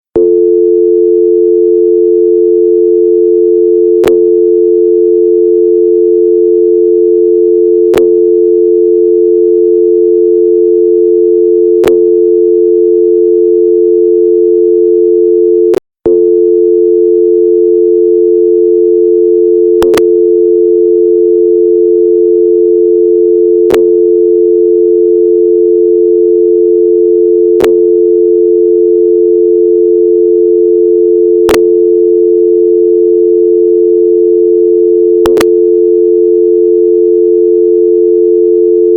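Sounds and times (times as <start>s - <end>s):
telephone dial tone: 0.1s - 38.9s.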